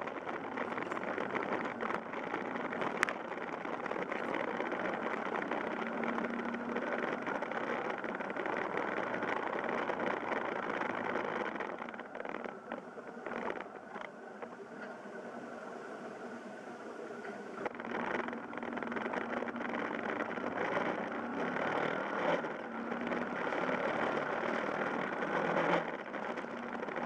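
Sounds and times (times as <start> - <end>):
motorcycle engine running: 0.0 - 14.5, 17.7 - 27.0
road and wind noise: 0.0 - 27.0.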